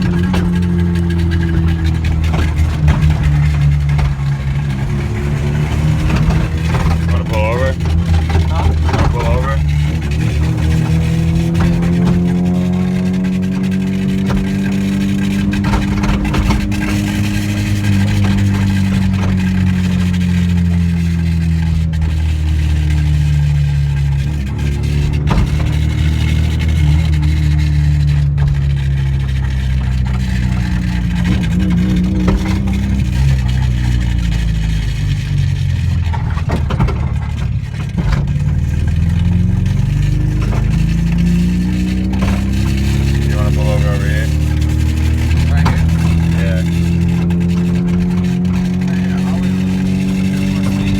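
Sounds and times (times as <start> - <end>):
car engine and exhaust droning: 0.0 - 50.9
road noise: 0.0 - 50.9.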